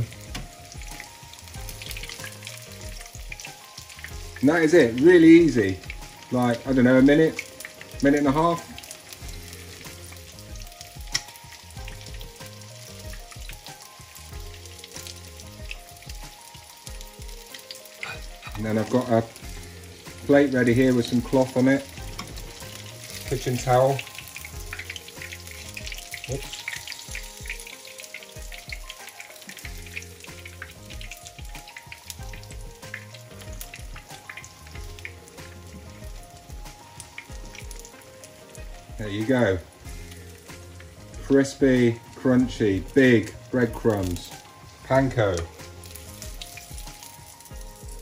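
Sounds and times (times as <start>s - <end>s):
background music with low notes: 0.0s - 48.0s
fish frying in hot oil: 0.0s - 48.0s.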